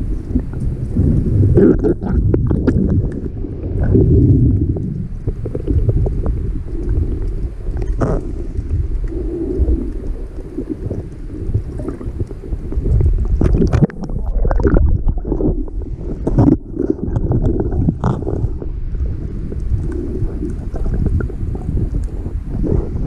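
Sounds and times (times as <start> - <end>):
muffled underwater rumble: 0.0 - 23.0
water rushing bursts: 0.0 - 23.0.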